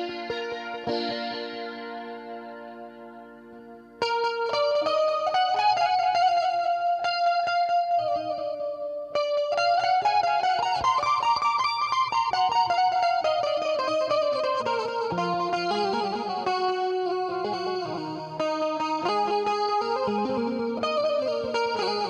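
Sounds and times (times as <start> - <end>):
amplified keyed zither melody: 0.0 - 22.0.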